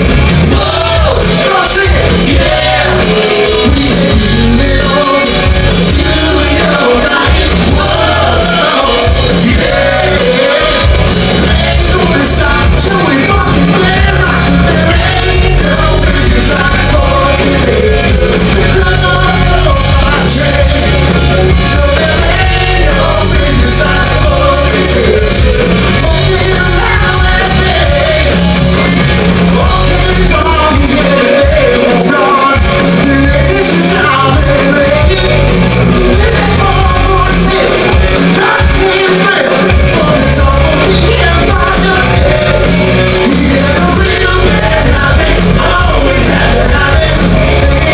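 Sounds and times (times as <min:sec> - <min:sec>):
hard rock band playing live: 0:00.0 - 0:47.9
male lead singer: 0:00.0 - 0:47.9.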